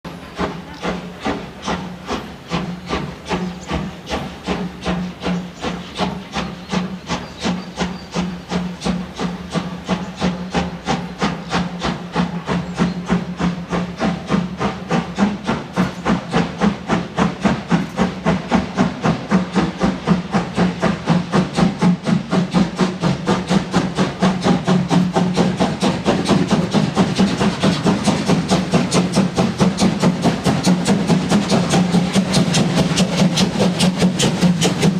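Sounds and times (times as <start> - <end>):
steam locomotive chuffing: 0.1 - 34.9.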